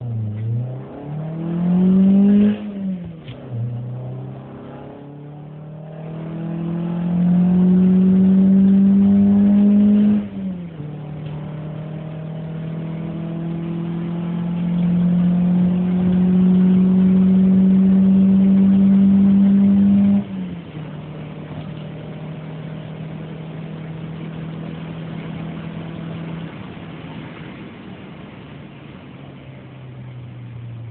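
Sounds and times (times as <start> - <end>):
car engine accelerating hard: 0.0 - 30.9.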